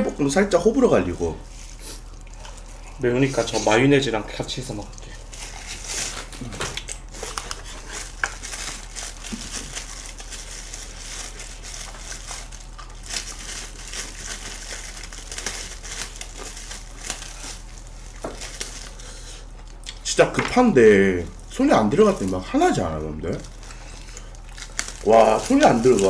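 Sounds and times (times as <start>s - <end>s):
plastic glove crinkling: 0.0s - 26.0s.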